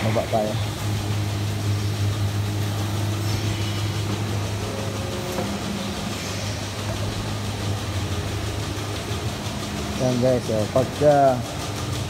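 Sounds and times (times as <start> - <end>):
milking machinery humming: 0.0 - 12.0.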